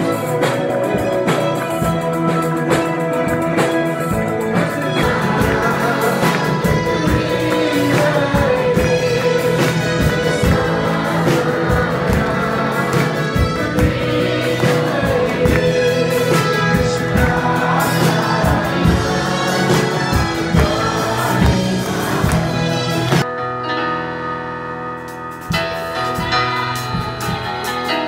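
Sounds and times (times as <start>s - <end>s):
group singing gospel song: 0.0s - 23.3s
steady drum beat: 0.0s - 23.3s
guitar: 0.0s - 28.0s.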